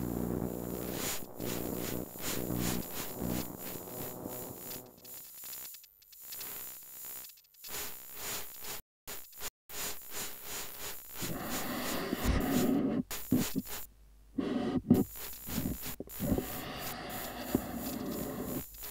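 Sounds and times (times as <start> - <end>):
crackling electronic static: 0.0 - 18.9.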